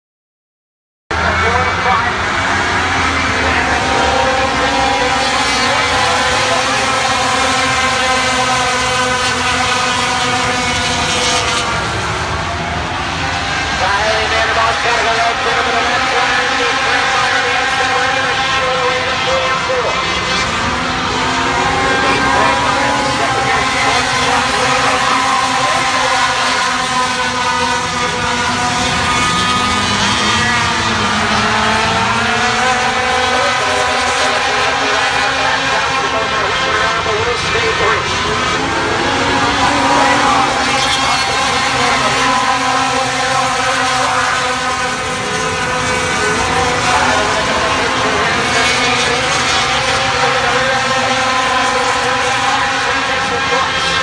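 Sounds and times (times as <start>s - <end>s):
racing truck engines passing: 1.1s - 54.0s.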